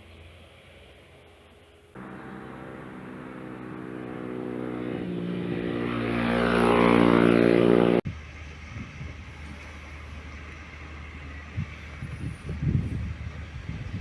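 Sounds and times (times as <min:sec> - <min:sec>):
engine running: 0:02.0 - 0:14.0.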